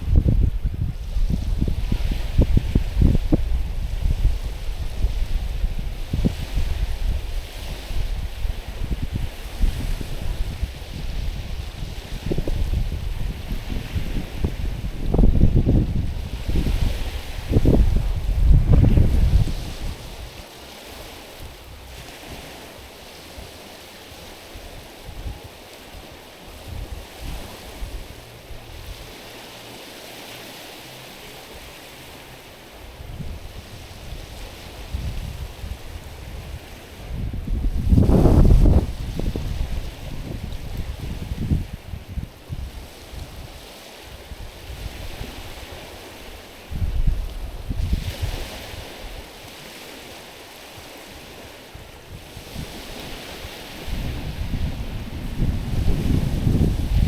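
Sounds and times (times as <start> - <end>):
waves washing onto stony beach: 0.0 - 57.0
wind rumbling on microphone: 0.0 - 57.0.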